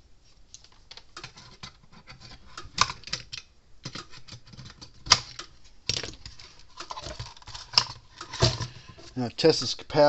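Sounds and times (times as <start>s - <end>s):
clicks and clacks of wire connectors: 0.5s - 9.8s.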